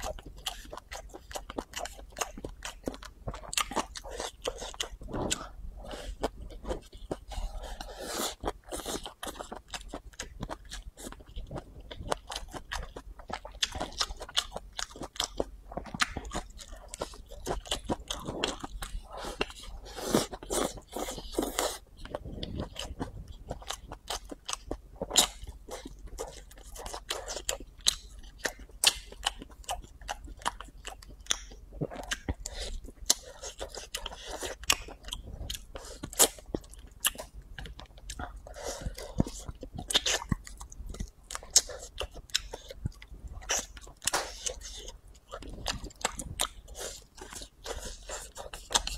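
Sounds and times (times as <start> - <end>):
person chewing noodles: 0.0 - 48.9.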